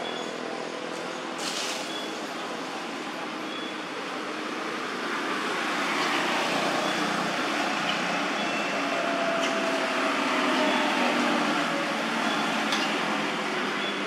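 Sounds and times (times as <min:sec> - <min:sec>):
traffic drone: 0:00.0 - 0:14.0.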